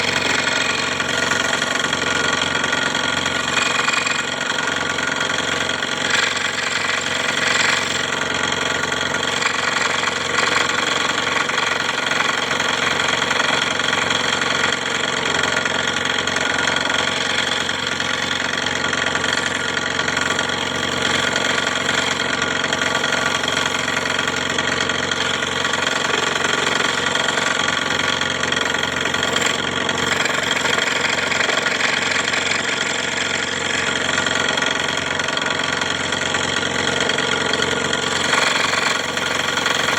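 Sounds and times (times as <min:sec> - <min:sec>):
scroll saw running: 0:00.0 - 0:39.9.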